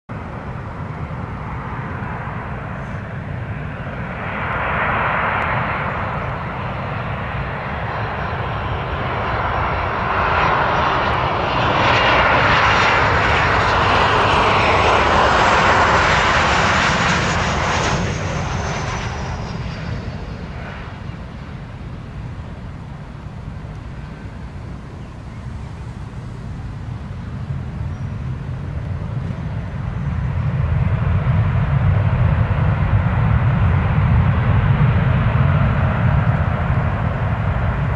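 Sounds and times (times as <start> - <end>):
jet engines whining: 0.2 - 37.9.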